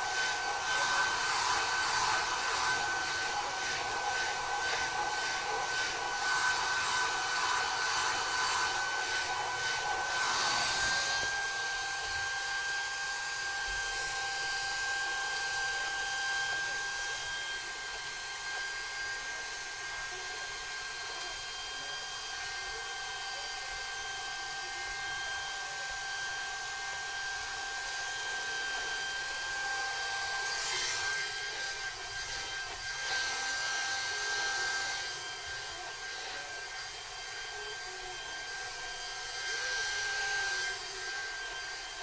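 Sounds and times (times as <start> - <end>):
hair dryer blowing: 0.0 - 42.0.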